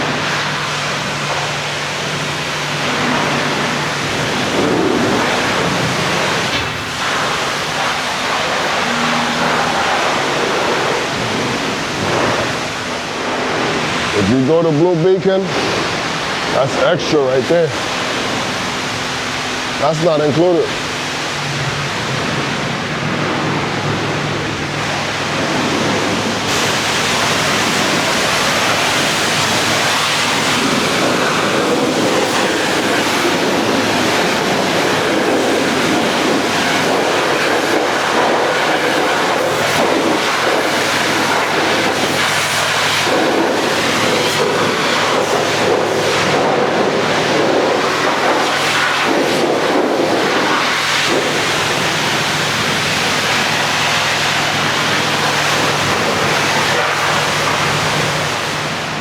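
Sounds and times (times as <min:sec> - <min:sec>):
high-pressure water spray hissing: 0:00.0 - 0:59.0
low steady hum: 0:00.0 - 0:59.0.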